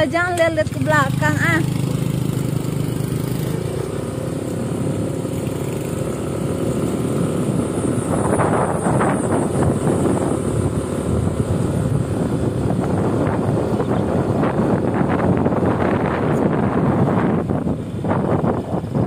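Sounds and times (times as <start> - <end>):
small motorcycle engine: 0.0 - 19.0
wind rumble on microphone: 0.0 - 19.0.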